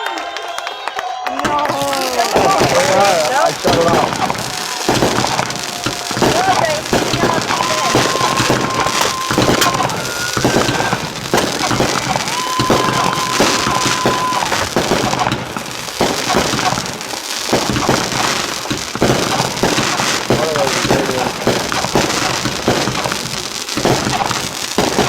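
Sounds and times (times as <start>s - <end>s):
fireworks bangs and crackling: 0.3s - 25.0s
firework whistles: 1.3s - 25.0s.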